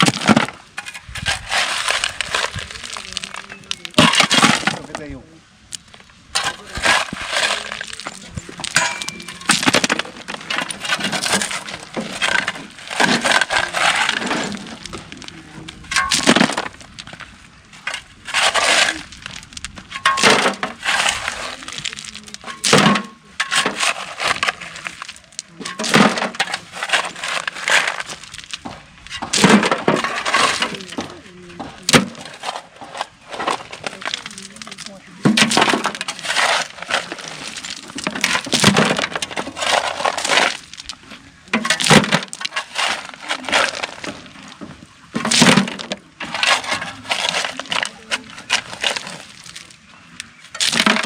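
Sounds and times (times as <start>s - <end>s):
shovel scraping gravel: 0.0s - 5.2s, 6.3s - 51.0s.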